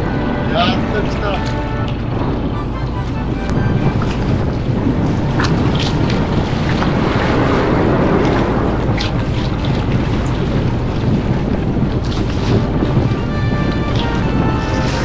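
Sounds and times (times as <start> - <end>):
boat engine: 0.0 - 15.0
water rushing: 0.0 - 15.0
wind buffeting microphone: 0.0 - 15.0
water splashes: 0.1 - 15.0.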